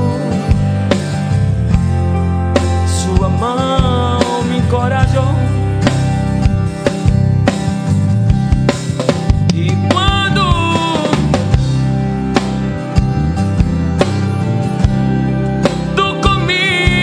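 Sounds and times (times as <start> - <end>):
bass: 0.0 - 17.0
bending melody line: 0.0 - 17.0
drum kit: 0.0 - 17.0.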